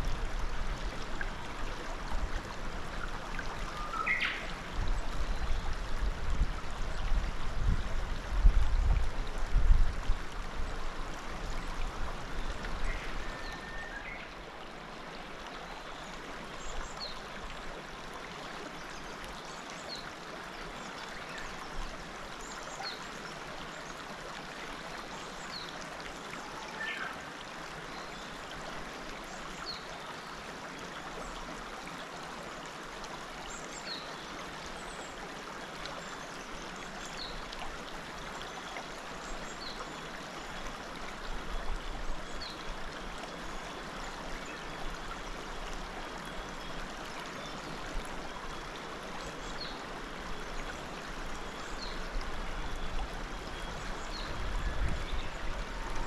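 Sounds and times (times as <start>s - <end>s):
river babbling over stones: 0.0s - 56.0s.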